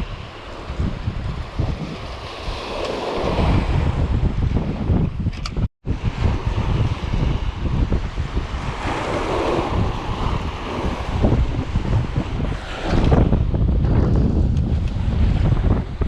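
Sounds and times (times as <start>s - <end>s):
sea waves washing: 0.0s - 5.0s, 5.8s - 16.0s
wind buffeting microphone: 0.0s - 16.0s.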